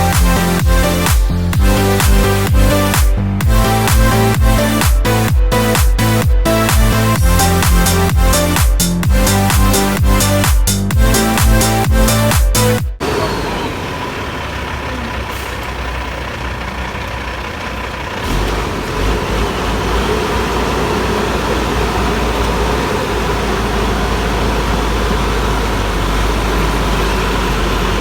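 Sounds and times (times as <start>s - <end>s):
bulldozer diesel engines rumbling: 0.0s - 28.0s.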